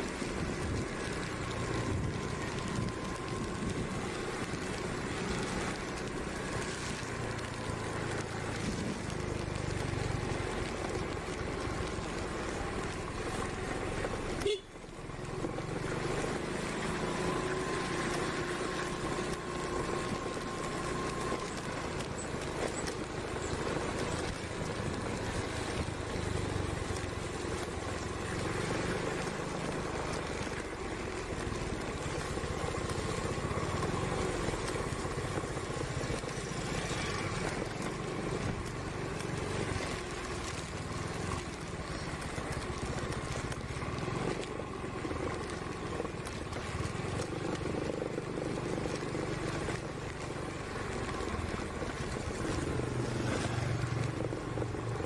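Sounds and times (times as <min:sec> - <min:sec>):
scooter engine running: 0:00.0 - 0:55.0
tyres on wet road: 0:00.0 - 0:55.0.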